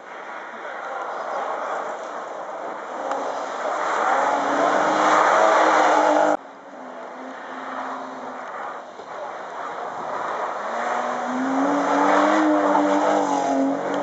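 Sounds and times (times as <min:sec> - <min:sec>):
rally car engine: 0:00.0 - 0:14.0.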